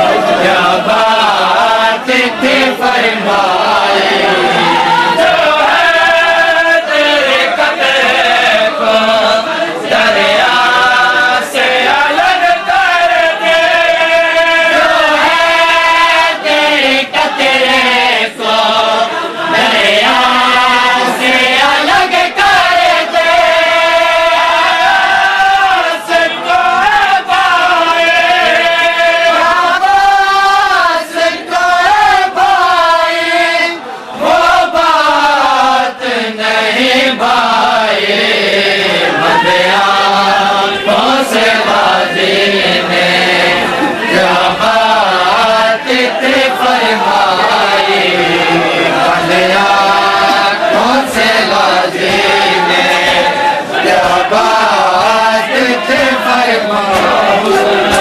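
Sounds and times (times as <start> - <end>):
men chanting a mourning lament: 0.0 - 58.0.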